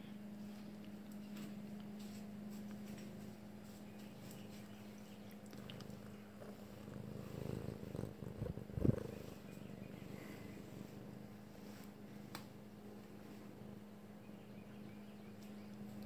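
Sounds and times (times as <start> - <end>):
cat purring: 2.4 - 16.0.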